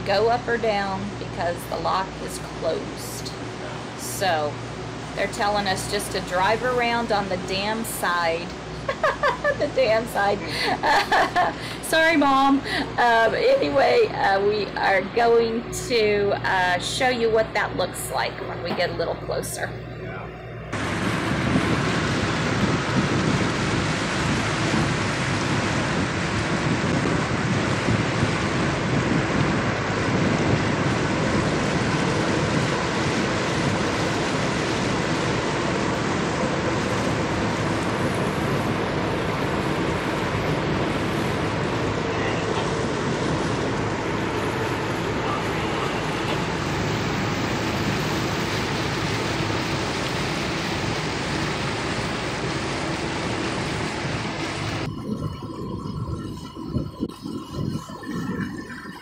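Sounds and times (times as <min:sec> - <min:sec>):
wind and water rushing: 0:00.0 - 0:20.0, 0:20.6 - 0:59.0
faint engine hum: 0:00.0 - 0:57.1.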